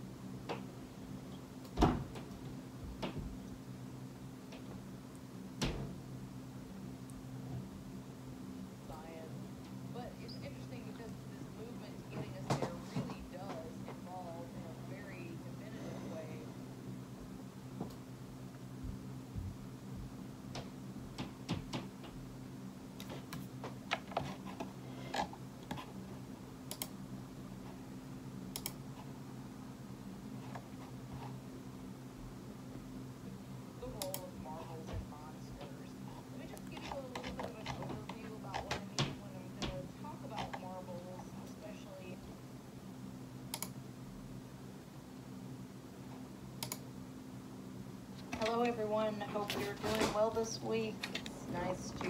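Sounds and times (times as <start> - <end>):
low hum: 0.0 - 52.0.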